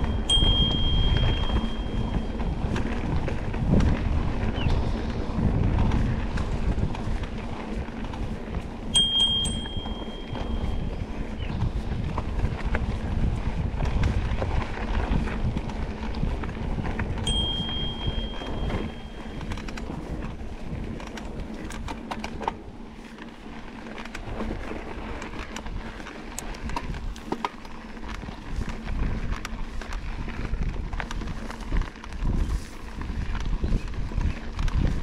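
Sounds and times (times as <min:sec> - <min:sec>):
bike clicks and rattles: 0:00.0 - 0:35.0
bike tyres on dirt: 0:00.0 - 0:35.0
wind on microphone: 0:00.0 - 0:35.0.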